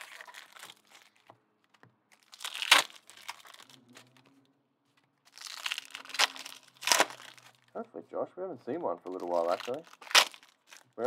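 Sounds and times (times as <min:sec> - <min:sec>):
card pack wrappers crinkling: 0:00.0 - 0:04.3, 0:04.9 - 0:07.8, 0:08.9 - 0:11.0.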